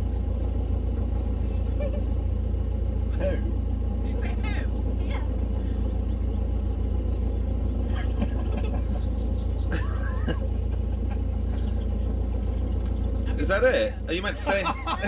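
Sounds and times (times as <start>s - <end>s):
boat diesel engine humming: 0.0s - 15.0s.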